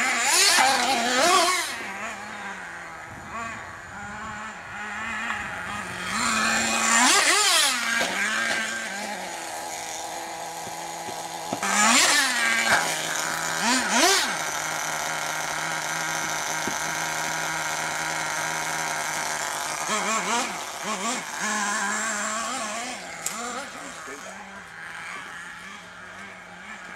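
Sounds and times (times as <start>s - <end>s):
model truck engine revving: 0.0s - 26.9s.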